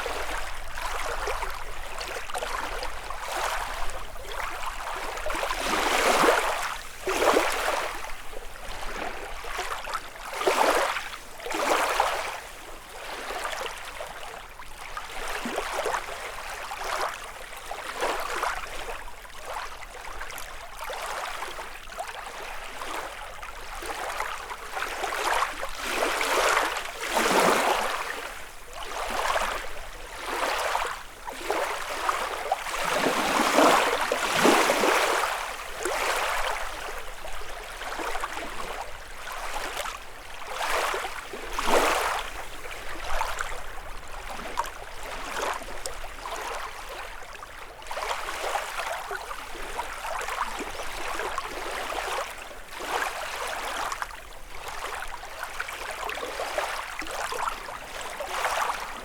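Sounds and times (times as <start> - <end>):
water splashes: 0.0 - 13.6, 22.6 - 59.0
lake waves lapping on shore: 0.0 - 59.0.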